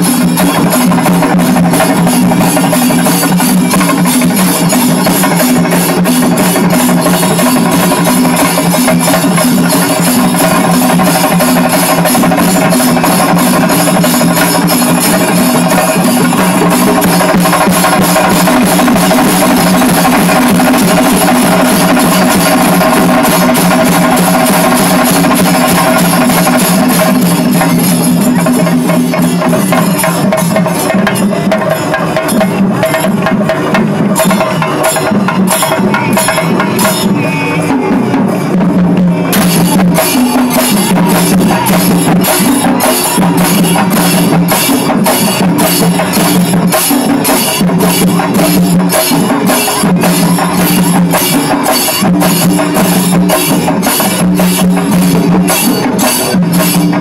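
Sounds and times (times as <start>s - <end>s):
clashing cymbals: 0.0s - 57.0s
drum ensemble playing: 0.0s - 57.0s.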